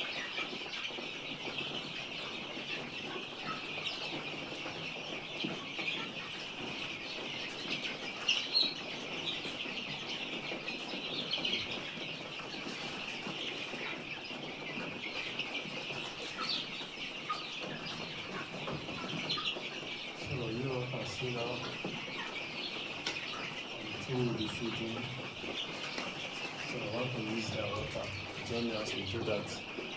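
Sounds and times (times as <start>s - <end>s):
chickens clucking: 0.0s - 29.9s
loud chicken calls: 0.0s - 29.9s.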